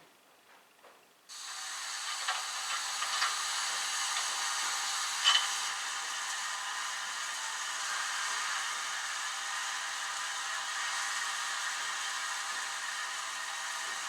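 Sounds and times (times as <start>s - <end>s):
steam hiss through small speaker: 1.3s - 14.0s.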